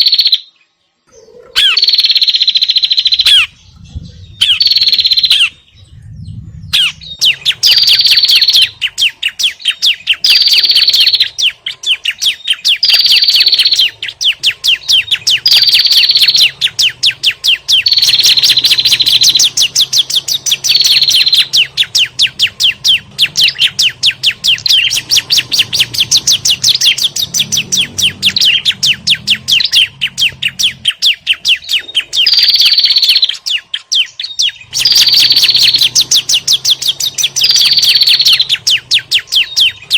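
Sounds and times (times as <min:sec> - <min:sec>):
small birds alarm chatter: 0:00.0 - 0:39.9.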